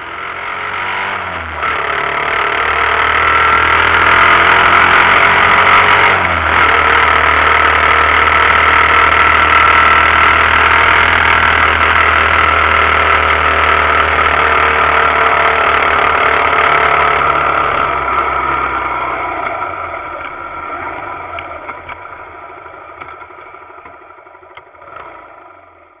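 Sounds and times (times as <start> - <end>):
muffled motorcycle engine: 0.0 - 26.0
road noise: 0.0 - 26.0.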